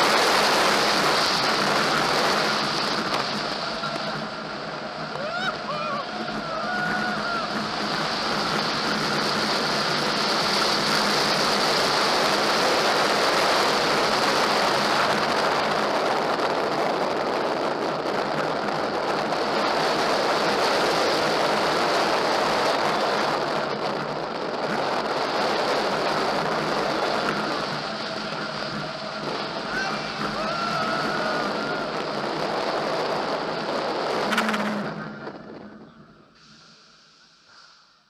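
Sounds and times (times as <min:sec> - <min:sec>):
rushing wind noise: 0:00.0 - 0:37.8.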